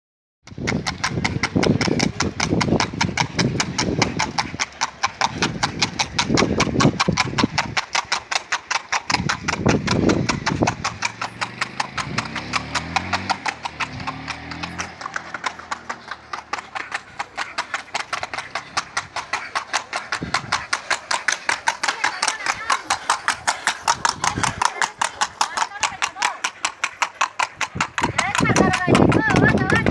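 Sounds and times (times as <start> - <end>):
horse hooves clip-clopping: 0.5 - 29.9.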